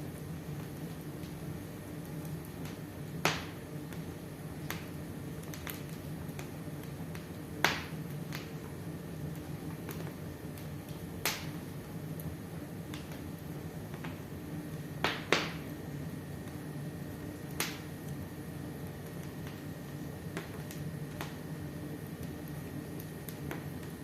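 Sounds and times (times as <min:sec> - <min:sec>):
burning logs popping: 0:00.0 - 0:24.0
fire rustling with light crackles: 0:00.0 - 0:24.0.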